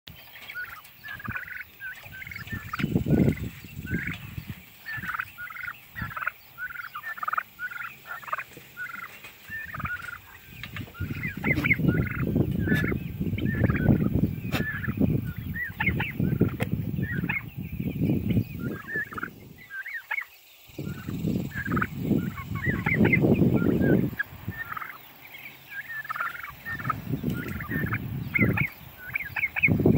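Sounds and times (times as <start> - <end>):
young turkeys calling: 0.1 - 29.9.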